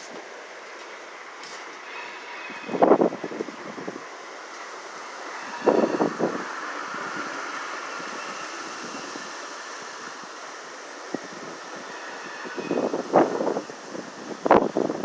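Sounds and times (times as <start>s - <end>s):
strong wind blowing: 1.1s - 15.0s
wind gust: 1.1s - 15.0s.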